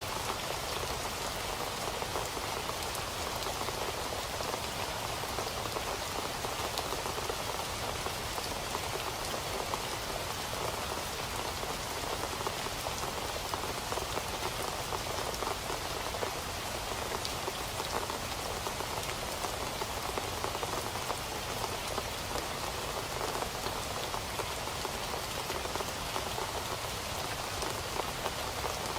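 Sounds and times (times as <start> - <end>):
rain pattering: 0.0 - 28.9.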